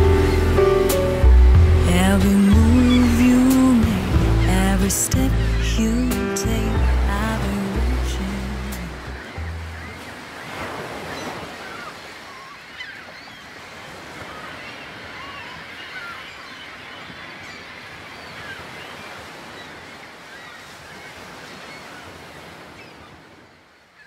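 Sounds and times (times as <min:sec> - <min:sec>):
birds calling: 0:00.0 - 0:24.0
ocean surf on beach: 0:00.0 - 0:24.0.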